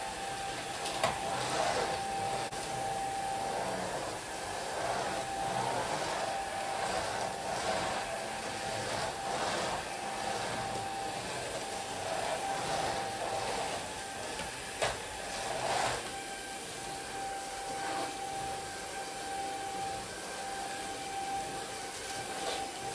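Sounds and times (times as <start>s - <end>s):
vacuum cleaner on a rug: 0.0s - 22.9s.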